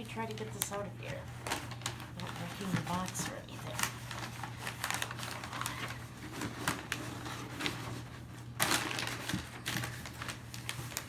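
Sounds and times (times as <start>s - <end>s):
plastic packaging crinkling: 0.0s - 11.0s
plastic wrapper rustle: 0.0s - 11.0s.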